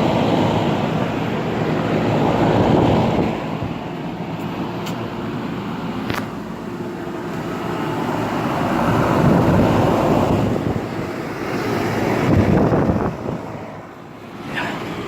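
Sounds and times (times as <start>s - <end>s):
air conditioner units running: 0.0s - 15.0s.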